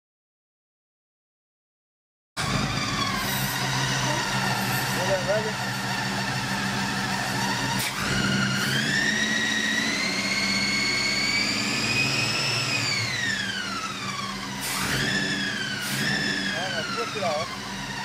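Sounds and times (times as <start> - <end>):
drive belt whining: 2.4 - 18.0.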